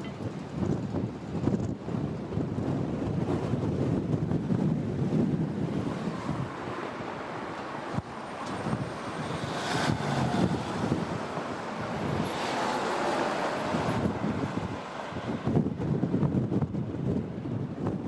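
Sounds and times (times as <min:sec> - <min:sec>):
road traffic passing: 0:00.0 - 0:18.0
wind buffeting microphone: 0:00.0 - 0:18.0.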